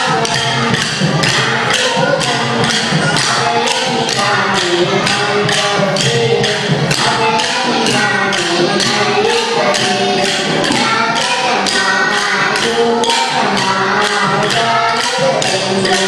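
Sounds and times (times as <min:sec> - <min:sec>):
wooden sticks clicking together: 0:00.2 - 0:16.0.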